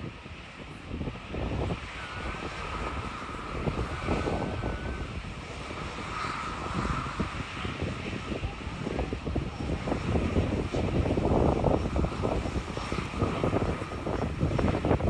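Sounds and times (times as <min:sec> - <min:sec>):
jet engines whining: 0:00.0 - 0:15.0
wind buffeting microphone: 0:00.0 - 0:15.0.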